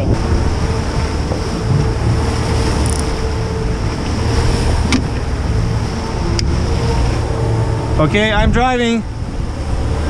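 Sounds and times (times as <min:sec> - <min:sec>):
outboard motors droning: 0:00.0 - 0:10.0
water splashing along hull: 0:00.0 - 0:10.0
wind buffeting microphone: 0:00.0 - 0:10.0.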